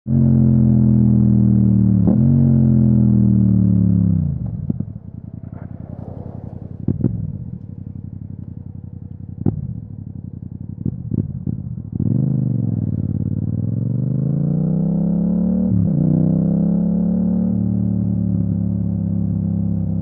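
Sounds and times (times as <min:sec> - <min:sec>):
motorcycle engine decelerating: 0:00.1 - 0:20.0.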